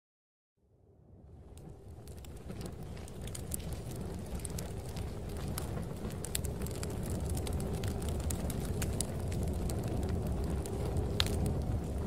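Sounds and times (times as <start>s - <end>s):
low rumble of storm wind: 0.8s - 12.0s
fire crackling and popping: 1.4s - 12.0s.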